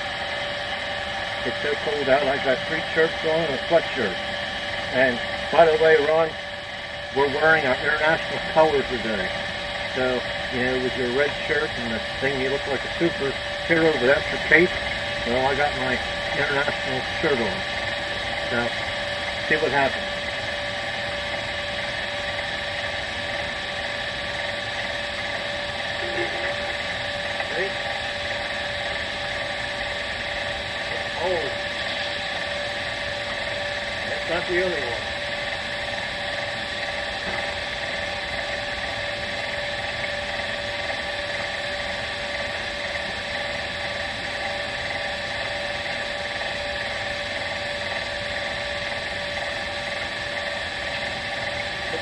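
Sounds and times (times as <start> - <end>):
electric starter cranking engine: 0.0 - 52.0.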